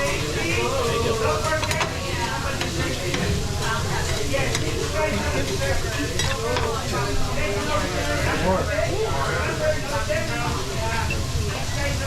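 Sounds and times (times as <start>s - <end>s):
food sizzling on a griddle: 0.0s - 12.0s
murmur of voices: 0.0s - 12.0s.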